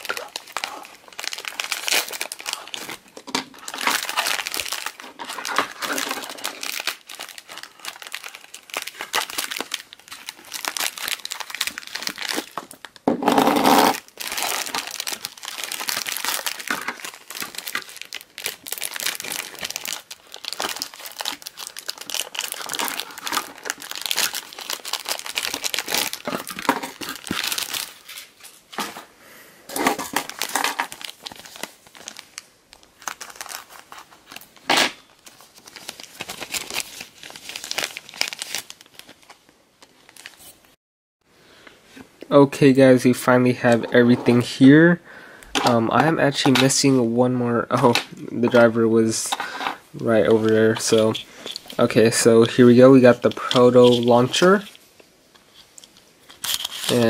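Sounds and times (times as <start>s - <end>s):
plastic bags crinkling: 0.0s - 29.0s, 29.7s - 40.8s, 47.7s - 57.0s.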